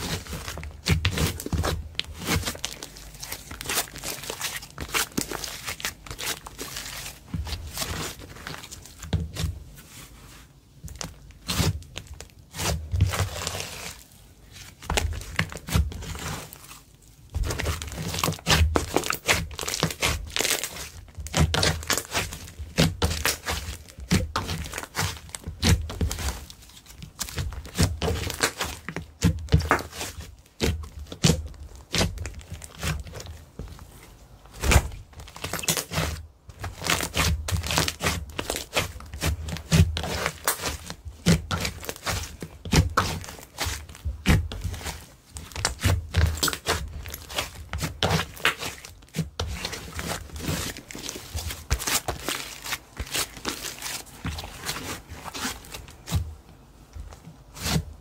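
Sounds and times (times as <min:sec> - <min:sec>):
hands squishing slime: 0:00.0 - 0:56.4.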